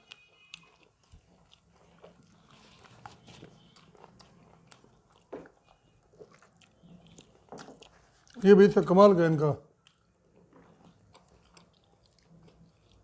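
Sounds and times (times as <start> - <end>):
chewing fried chicken: 0.0 - 13.0.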